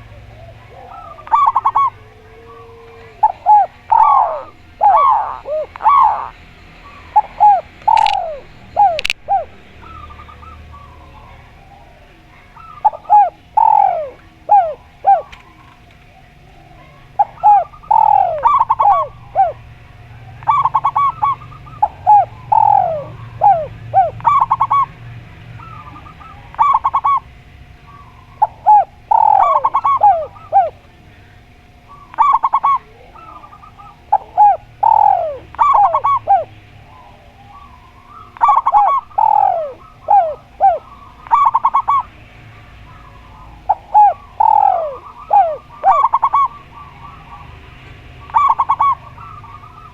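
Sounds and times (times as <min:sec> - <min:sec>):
doves cooing: 0:00.0 - 0:49.9
faint steady hum: 0:00.0 - 0:49.9.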